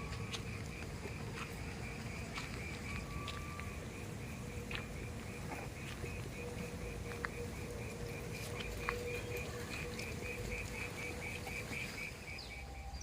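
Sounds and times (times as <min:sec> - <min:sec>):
faint steady hum: 0:00.0 - 0:13.0
rhythmic high-pitched chirping: 0:00.0 - 0:13.0.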